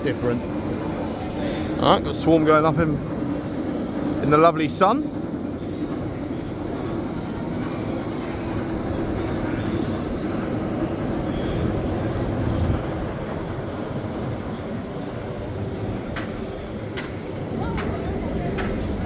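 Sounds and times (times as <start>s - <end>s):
roller coaster lift rumble: 0.0s - 19.0s.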